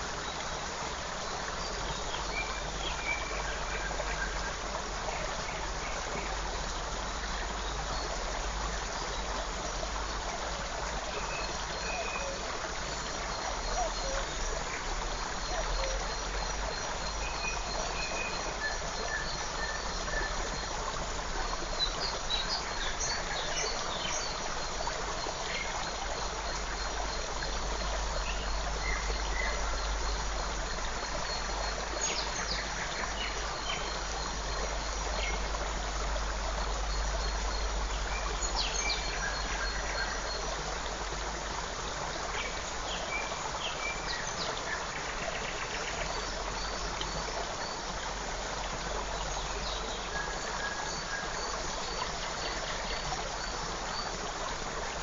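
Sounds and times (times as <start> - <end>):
stream rushing water: 0.0 - 55.0.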